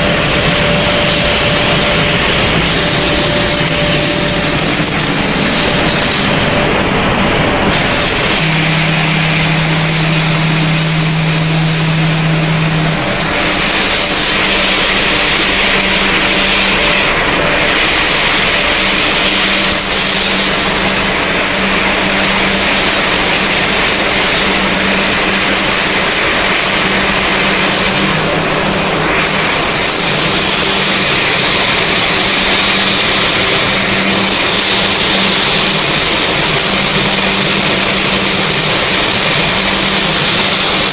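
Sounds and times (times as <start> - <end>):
low motor hum: 0.0 - 40.9
machine hiss: 0.0 - 40.9
machinery running: 0.0 - 40.9.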